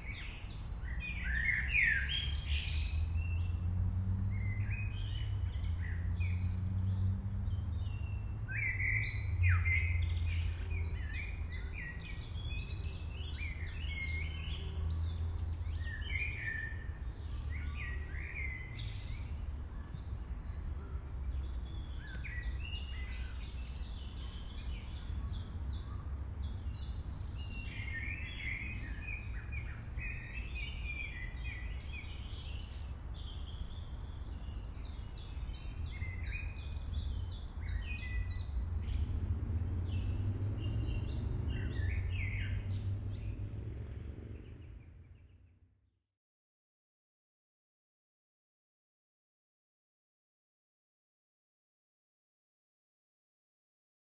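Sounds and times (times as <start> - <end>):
songbirds singing and trilling: 0.0 - 45.8.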